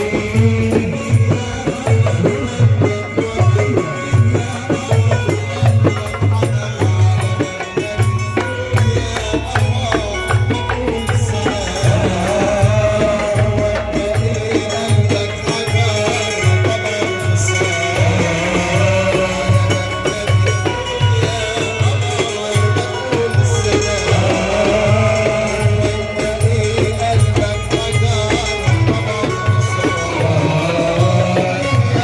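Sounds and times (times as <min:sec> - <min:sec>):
low drum beat: 0:00.0 - 0:32.0
rattling percussion: 0:00.0 - 0:32.0.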